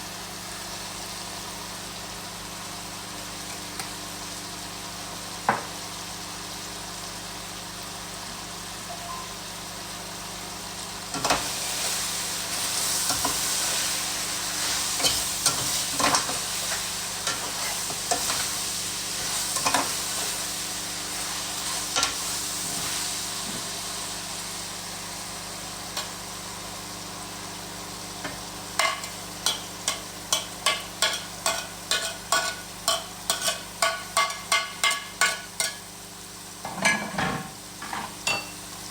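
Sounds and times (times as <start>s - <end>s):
food sizzling in frying pan: 0.0s - 38.9s.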